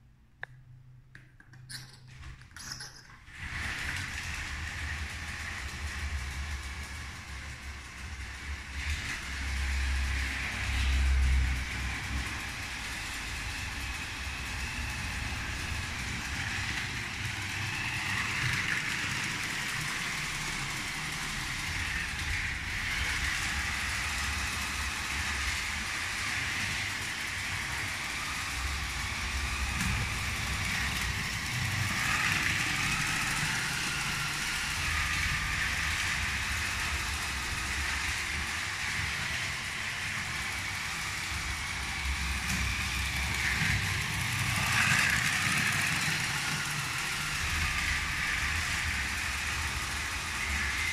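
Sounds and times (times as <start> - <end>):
toy train motor whine: 1.7 - 50.9
low rumble of train wheels: 2.1 - 50.9.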